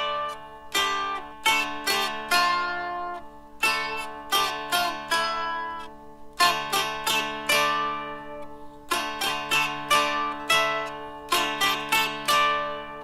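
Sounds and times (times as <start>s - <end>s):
dulcimer strummed: 0.0s - 13.0s.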